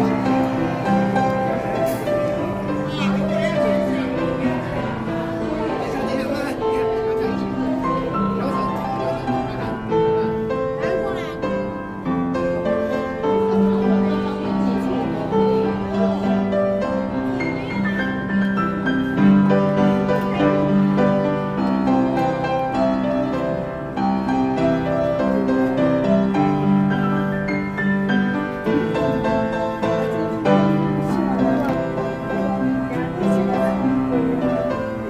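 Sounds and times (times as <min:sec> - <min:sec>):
piano background music: 0:00.0 - 0:35.0.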